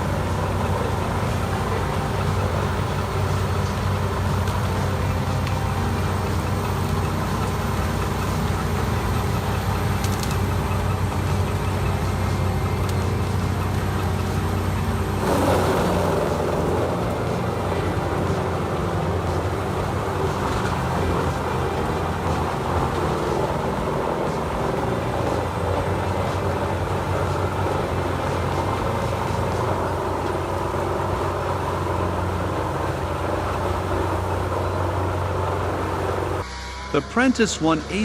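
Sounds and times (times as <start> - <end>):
faint rattles and ticks: 0.0 - 35.8
diesel engine droning: 0.0 - 38.0.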